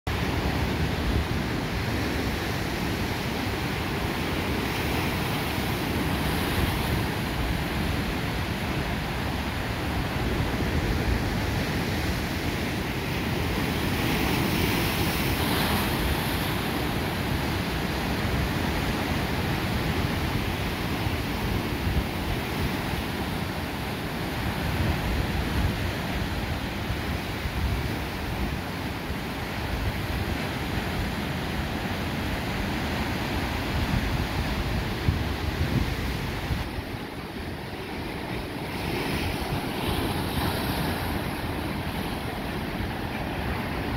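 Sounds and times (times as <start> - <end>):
ocean waves breaking: 0.1 - 43.9.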